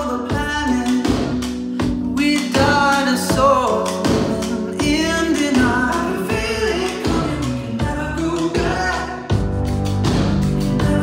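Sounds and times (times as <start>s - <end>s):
song with sung vocal over bass beat: 0.0s - 11.0s.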